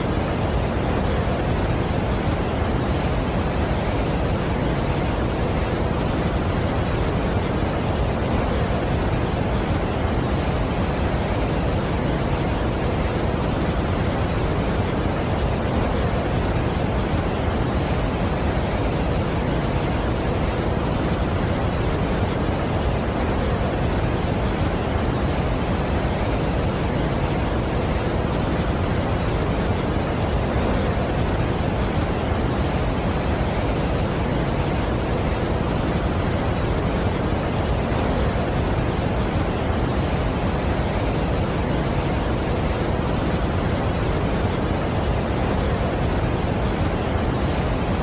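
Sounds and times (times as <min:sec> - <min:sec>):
large waterfall rushing: 0:00.0 - 0:48.0.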